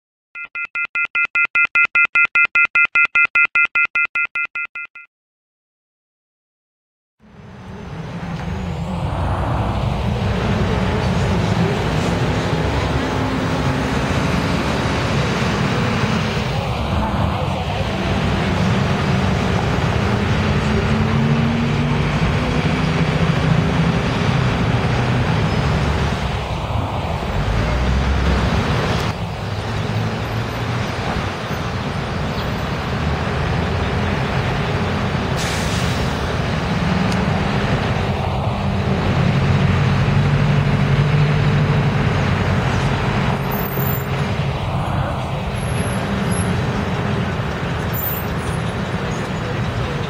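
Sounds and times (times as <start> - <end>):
bus engine droning: 7.2 - 50.0
street traffic noise: 7.2 - 50.0.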